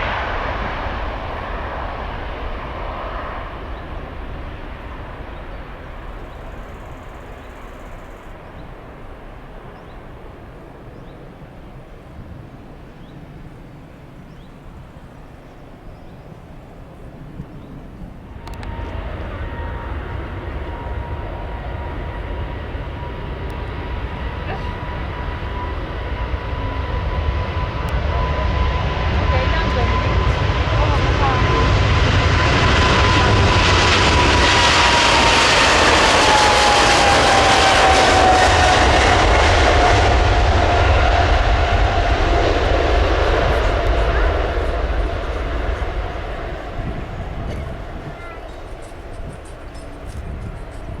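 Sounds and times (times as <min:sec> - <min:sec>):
jet engines at takeoff: 0:00.0 - 0:51.0.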